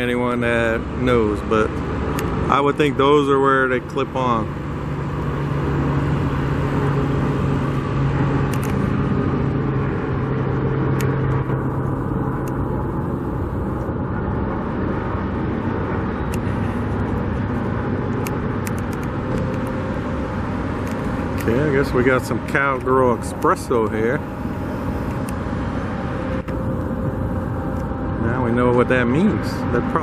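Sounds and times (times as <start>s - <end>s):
low engine hum: 0.0s - 30.0s
road traffic passing: 0.0s - 30.0s.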